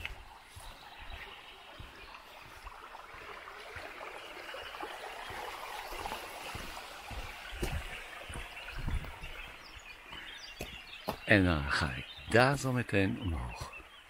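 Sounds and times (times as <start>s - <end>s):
faint footsteps on path: 0.0s - 12.7s
brook burbling over stones: 0.0s - 14.0s.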